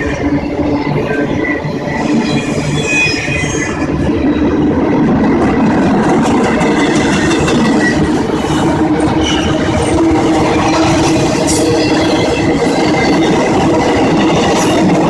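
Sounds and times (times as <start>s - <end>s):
train rumble and rattle: 0.0s - 15.0s.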